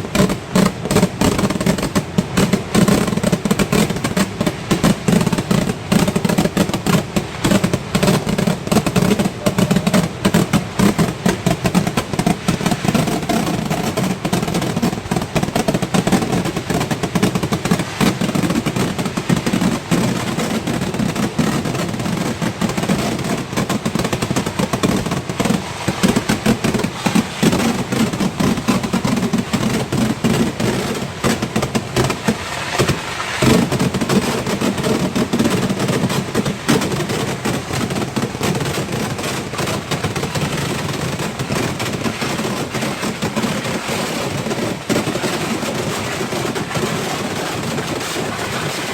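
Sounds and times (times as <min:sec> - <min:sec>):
firecrackers going off: 0:00.0 - 0:48.9.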